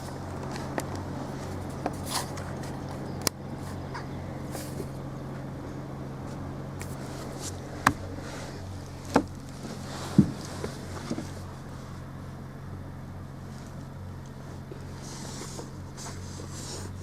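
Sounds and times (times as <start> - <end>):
motor vehicle hum: 0.0 - 17.0.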